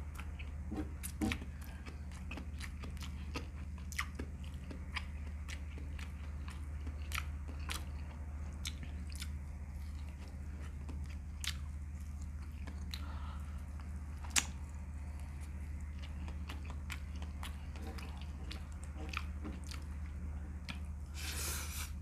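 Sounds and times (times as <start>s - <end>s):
person chewing: 0.0s - 22.0s
steady low hum: 0.0s - 22.0s.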